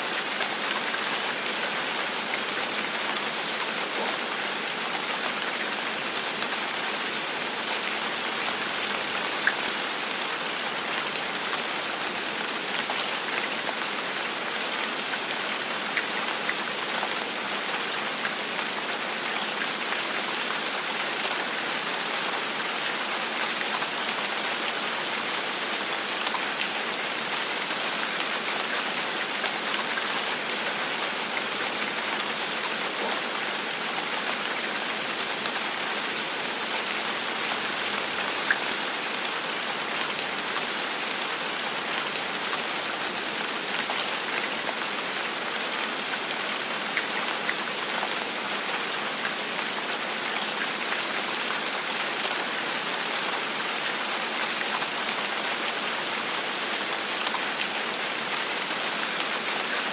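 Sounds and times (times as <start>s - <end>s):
gentle rain falling: 0.0s - 59.9s.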